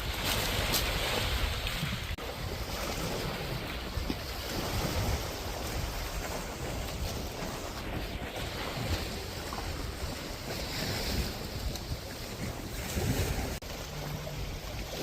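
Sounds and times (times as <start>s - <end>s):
water washing: 0.0s - 15.0s
wind rushing over microphone: 0.0s - 15.0s.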